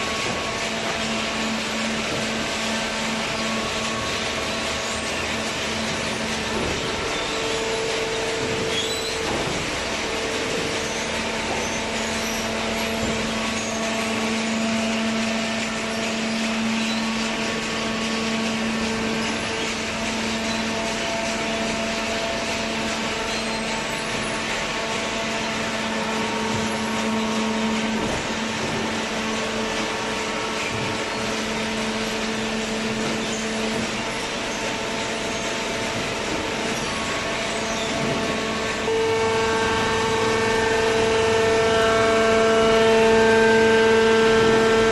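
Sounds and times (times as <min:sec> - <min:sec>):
hydraulic baler whining hum: 0:00.0 - 0:44.9.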